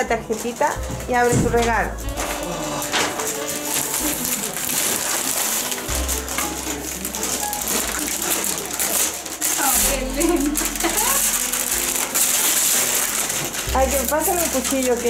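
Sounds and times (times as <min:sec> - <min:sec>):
person speaking: 0:00.0 - 0:11.9, 0:13.7 - 0:15.0
wrapping paper tearing: 0:00.0 - 0:15.0.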